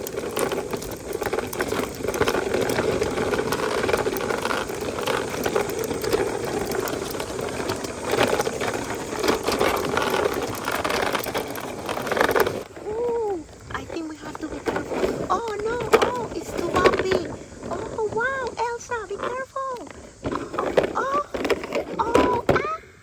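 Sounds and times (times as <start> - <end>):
plastic rattling and clatter: 0.0 - 22.8
toy car whirring: 0.0 - 23.0.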